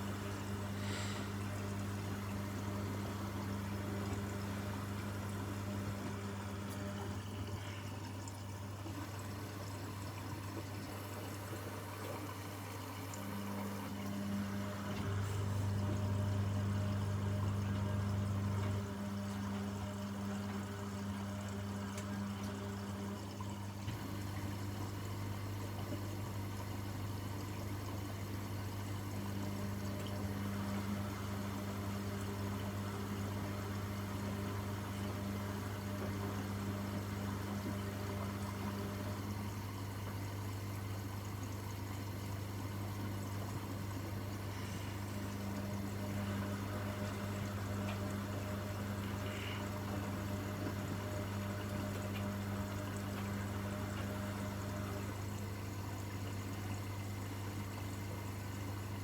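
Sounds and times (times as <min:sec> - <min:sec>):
washing machine low hum: 0:00.0 - 0:59.0
water rushing in washing machine: 0:00.0 - 0:59.0.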